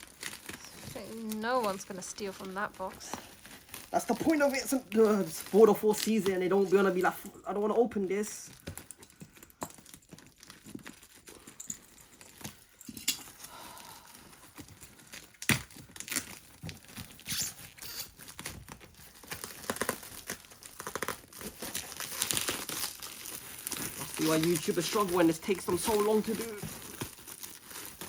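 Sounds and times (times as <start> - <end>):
plastic wrapping tearing and crinkling: 0.0 - 28.0.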